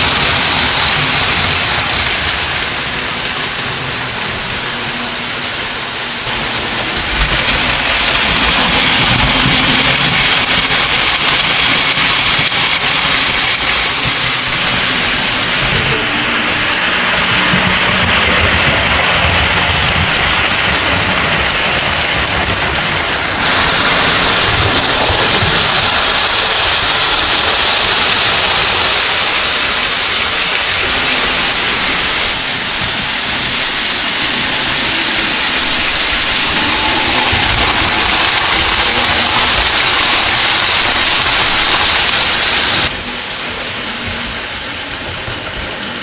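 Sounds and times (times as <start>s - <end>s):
model train wheels rolling: 0.0s - 46.0s.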